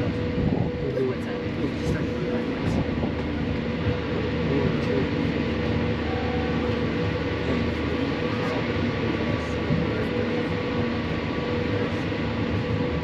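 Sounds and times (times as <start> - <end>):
cog railway train rumbling: 0.0 - 13.0
steady hum: 0.0 - 13.0.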